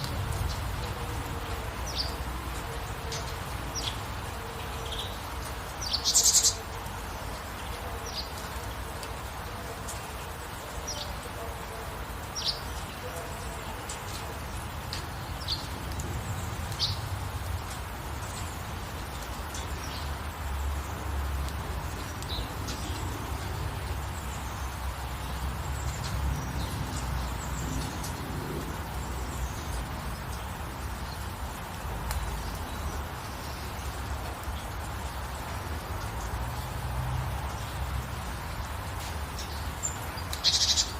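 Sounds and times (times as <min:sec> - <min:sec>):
birds chirping: 0:00.0 - 0:35.5, 0:38.3 - 0:40.9
rain hiss: 0:00.0 - 0:40.9.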